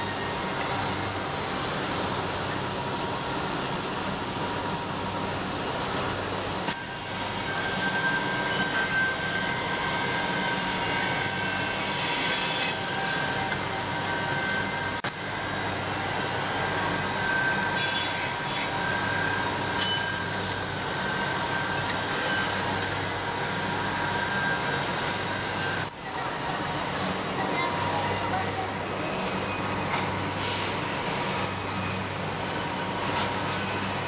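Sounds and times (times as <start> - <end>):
woodworking machinery humming: 0.0 - 34.0.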